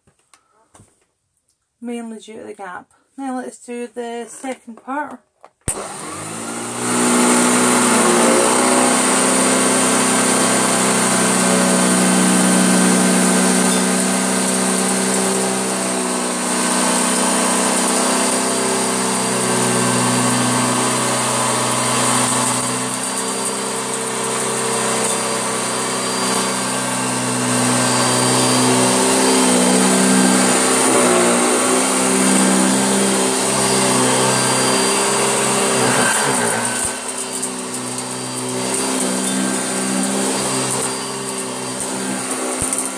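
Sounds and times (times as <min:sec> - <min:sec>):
vacuum cleaner running: 0:05.7 - 0:42.9.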